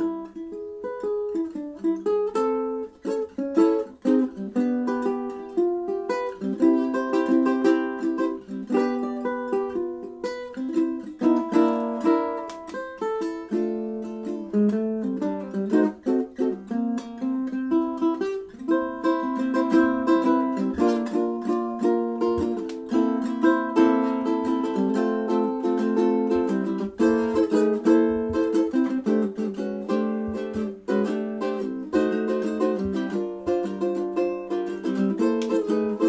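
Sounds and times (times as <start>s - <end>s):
ukulele plucked melody: 0.0s - 36.0s.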